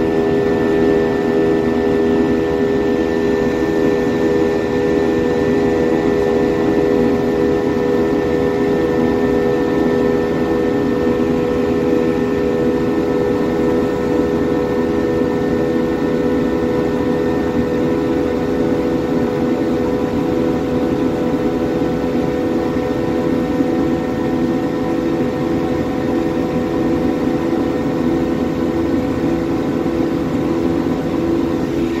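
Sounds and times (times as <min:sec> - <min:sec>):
jet engines droning: 0:00.0 - 0:32.0.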